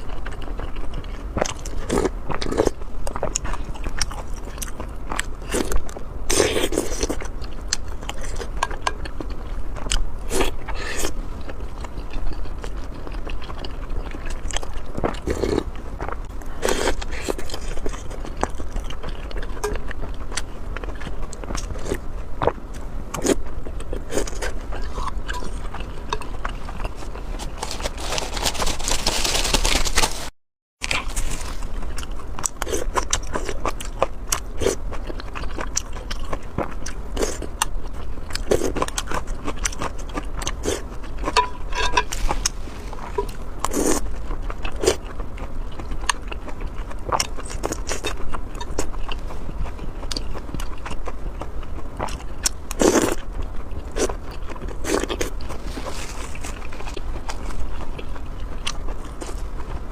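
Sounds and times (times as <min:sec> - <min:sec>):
person chewing food: 0:00.0 - 0:30.1, 0:30.8 - 0:59.9.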